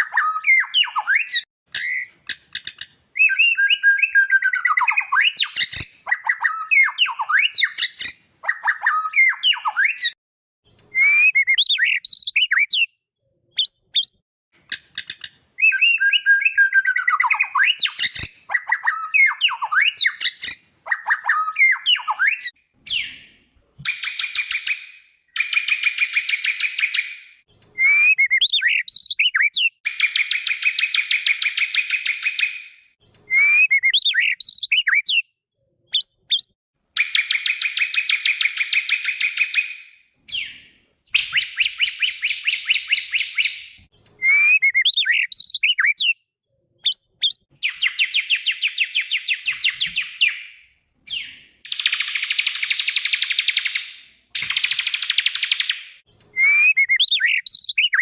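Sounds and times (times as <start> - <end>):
songbird trills and whistles: 0.0 - 10.2, 10.9 - 13.0, 13.6 - 35.3, 35.9 - 46.2, 46.8 - 58.0.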